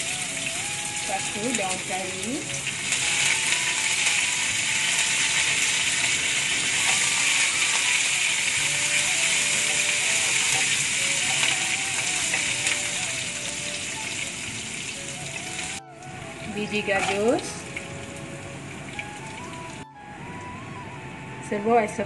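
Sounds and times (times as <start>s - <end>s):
spices sizzling in hot oil: 0.0s - 19.8s.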